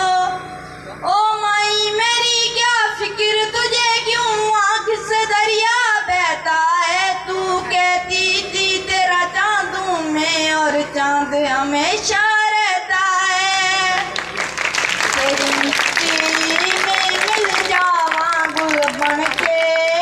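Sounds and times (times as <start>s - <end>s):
boy singing in a high voice: 1.1s - 14.1s, 15.2s - 20.0s.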